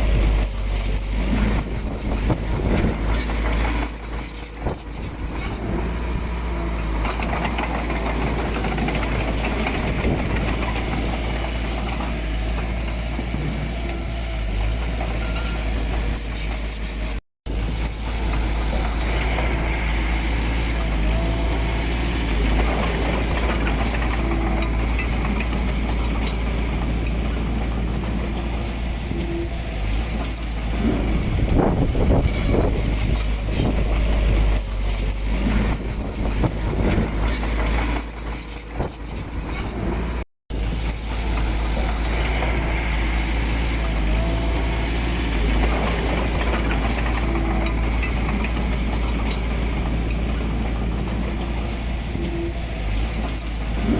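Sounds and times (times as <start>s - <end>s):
metallic clanks and squeaks: 0.0s - 12.8s, 13.4s - 21.4s, 22.0s - 53.9s
diesel machinery engine rumble: 0.0s - 53.9s.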